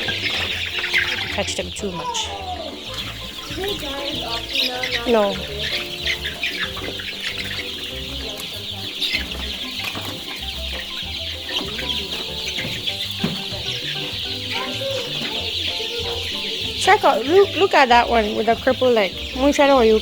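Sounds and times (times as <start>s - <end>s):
chickens clucking and peeping: 0.0s - 20.0s.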